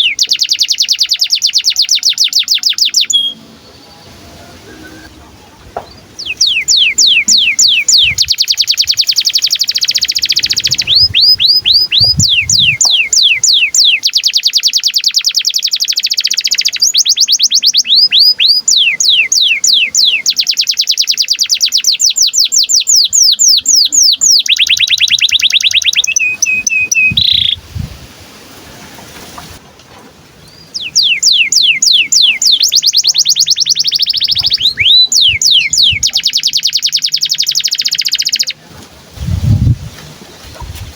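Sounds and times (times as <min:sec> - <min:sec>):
canary singing trills: 0:00.0 - 0:27.6, 0:30.4 - 0:38.6.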